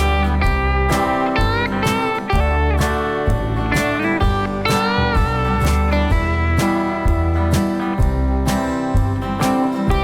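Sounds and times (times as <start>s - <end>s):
strummed guitar music: 0.0s - 10.0s.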